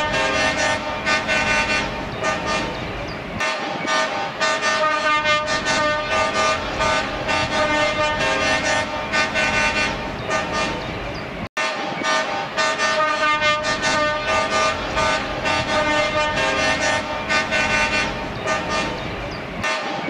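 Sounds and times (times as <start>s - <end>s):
truck air horns blasting: 0.0s - 10.8s, 11.6s - 20.0s.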